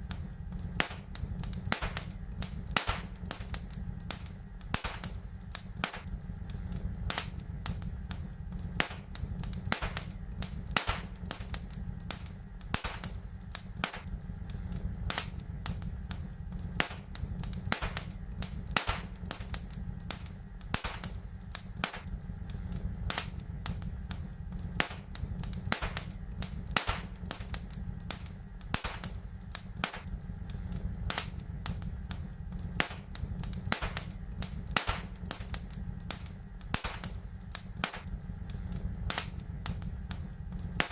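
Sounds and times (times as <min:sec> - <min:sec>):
steady low rumble: 0:00.0 - 0:40.9
wood fire crackling: 0:00.0 - 0:40.9.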